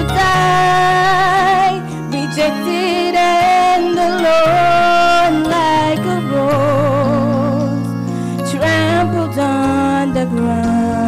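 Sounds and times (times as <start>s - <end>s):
sustained chordal accompaniment: 0.0s - 11.0s
woman singing into a microphone: 0.0s - 11.0s.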